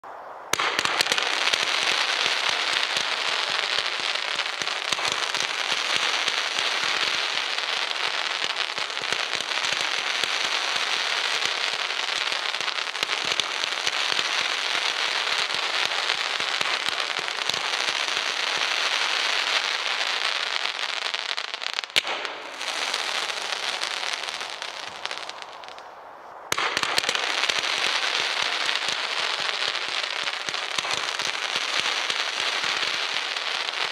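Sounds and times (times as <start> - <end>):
firework crackling: 0.0 - 33.9
firework sharp crack: 0.0 - 33.9.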